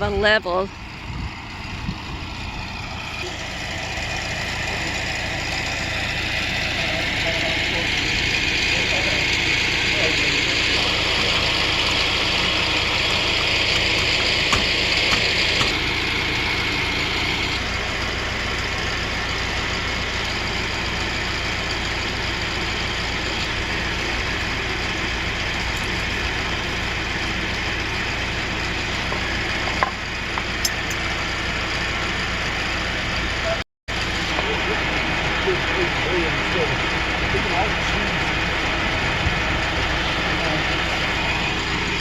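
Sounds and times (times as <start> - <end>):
tractor engine idling: 0.0 - 42.0.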